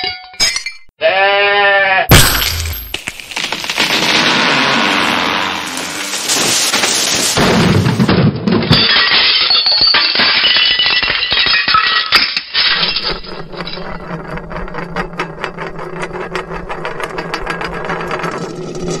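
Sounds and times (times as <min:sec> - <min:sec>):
tumbling clatter of crashes: 0:02.2 - 0:19.0.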